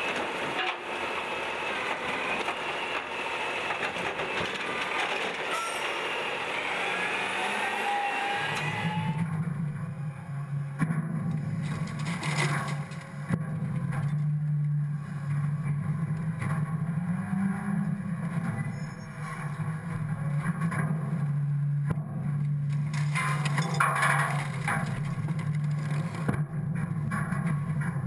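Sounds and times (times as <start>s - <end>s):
refuse truck engine and hydraulics humming: 0.0s - 27.2s.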